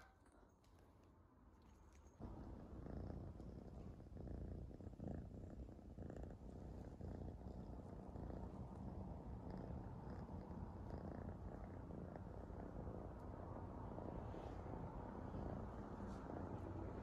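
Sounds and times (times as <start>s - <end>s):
cat purring: 1.6s - 17.0s.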